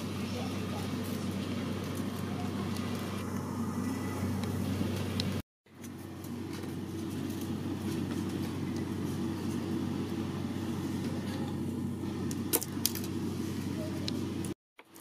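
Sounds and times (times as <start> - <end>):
low droning hum: 0.0 - 14.6.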